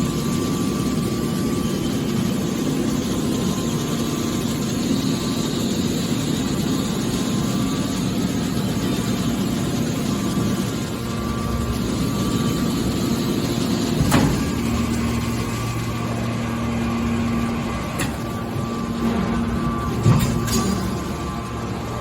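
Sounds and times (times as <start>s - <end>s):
baler machine hum: 0.0s - 22.0s.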